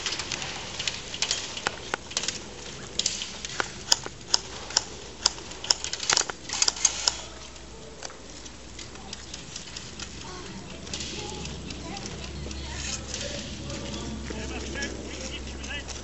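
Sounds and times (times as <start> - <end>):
airsoft guns firing: 0.0 - 16.0.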